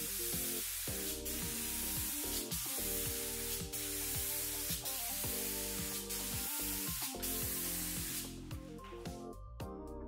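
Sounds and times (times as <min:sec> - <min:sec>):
spray gun hissing: 0:00.0 - 0:08.5
background music: 0:00.0 - 0:10.0.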